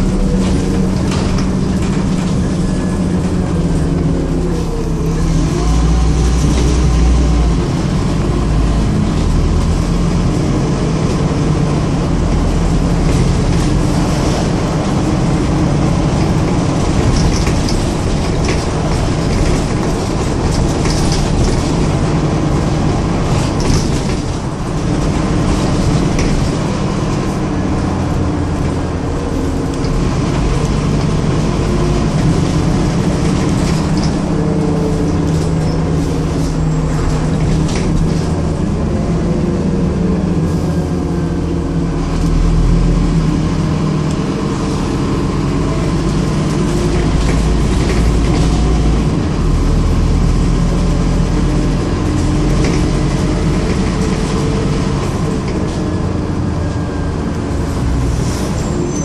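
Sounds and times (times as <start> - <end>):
bus diesel engine drone: 0.0 - 59.0
road noise: 0.0 - 59.0.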